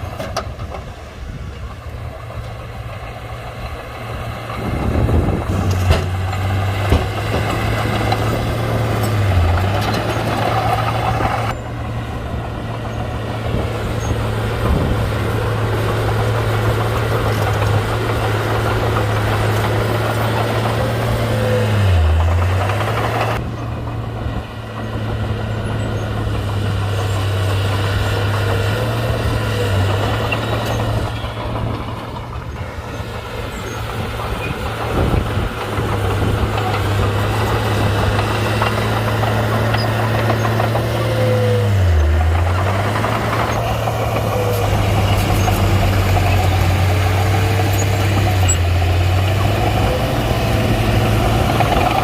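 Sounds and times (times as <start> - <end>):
bulldozer diesel engine droning: 0.0 - 52.0.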